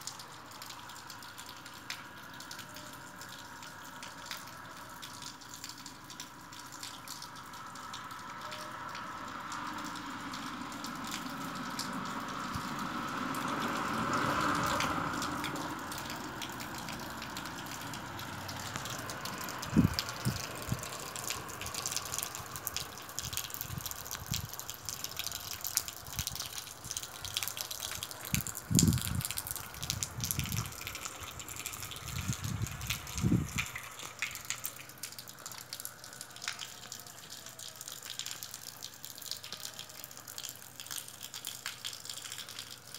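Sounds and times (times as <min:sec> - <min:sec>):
rain falling and dripping: 0:00.0 - 0:42.9.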